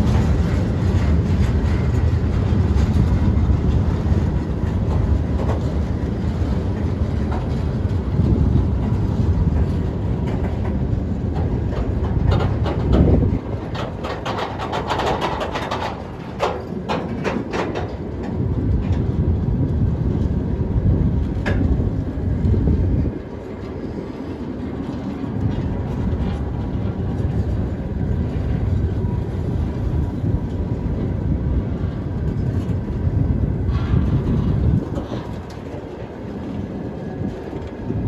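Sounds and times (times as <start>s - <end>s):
freight train rumbling: 0.0s - 38.0s
wheels clacking over rail joints: 0.0s - 38.0s.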